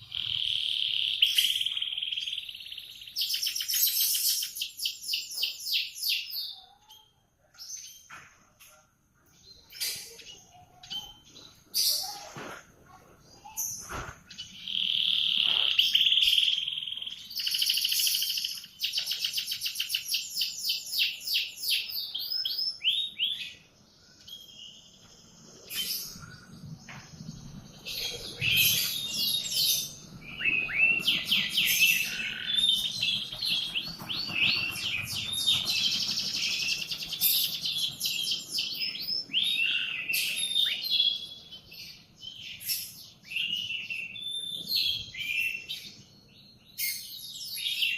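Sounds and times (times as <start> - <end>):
canary singing: 0.0 - 7.2, 13.3 - 47.9.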